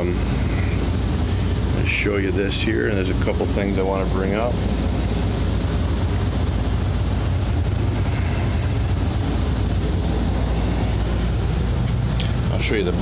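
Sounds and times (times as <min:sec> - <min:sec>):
even hiss: 0:00.0 - 0:13.0
steady low rumble: 0:00.0 - 0:13.0.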